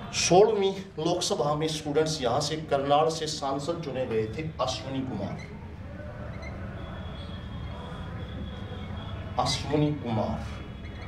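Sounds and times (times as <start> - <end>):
faint high whine: 0.0 - 11.0
low room hum: 0.0 - 11.0.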